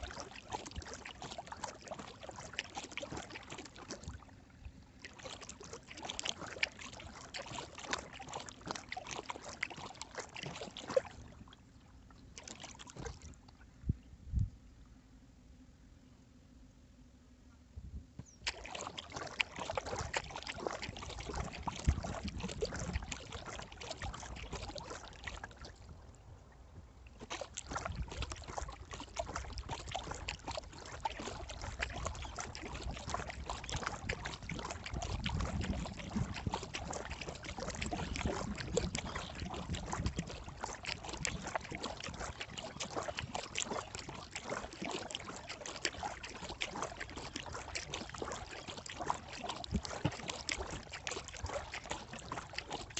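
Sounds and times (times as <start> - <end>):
water splashing and trickling: 0.0 - 14.0, 18.2 - 52.9
kayak paddle dipping and dripping: 0.0 - 15.0, 18.2 - 52.9.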